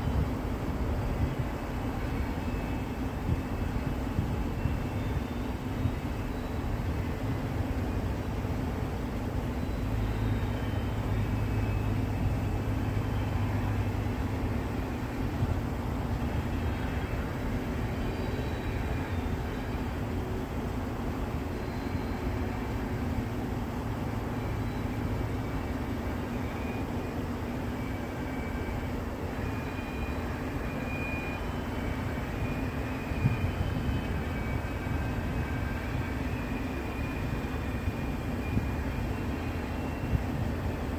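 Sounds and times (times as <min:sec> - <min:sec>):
faint high wheel squeals: 0:00.0 - 0:40.9
train wheels rumbling on rail: 0:00.0 - 0:40.9.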